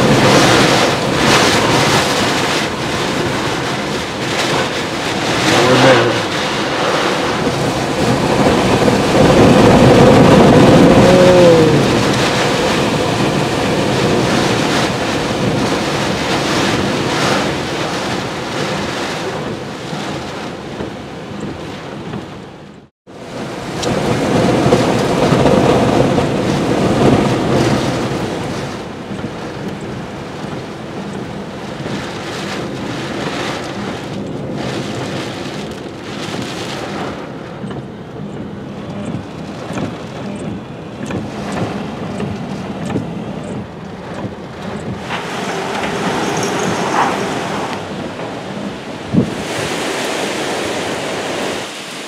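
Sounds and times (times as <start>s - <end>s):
rain: 0.0s - 52.0s
wind gusting on microphone: 0.0s - 52.0s.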